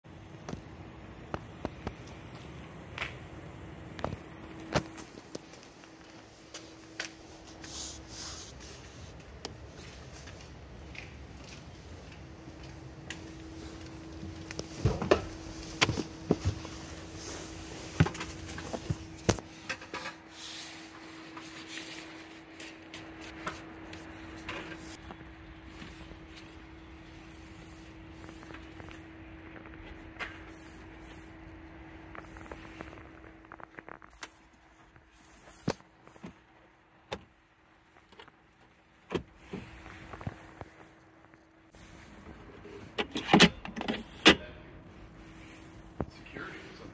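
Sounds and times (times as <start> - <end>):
faint steady hum: 0.1 - 46.9.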